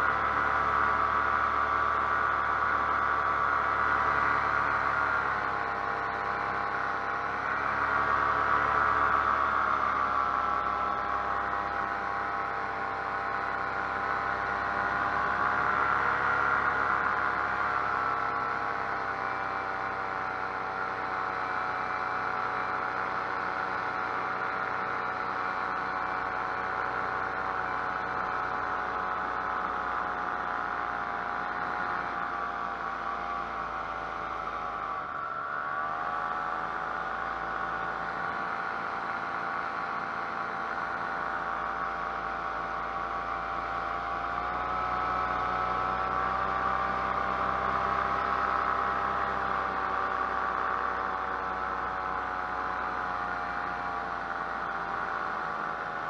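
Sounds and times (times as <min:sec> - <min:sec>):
paramotor engine droning: 0:00.0 - 0:56.0.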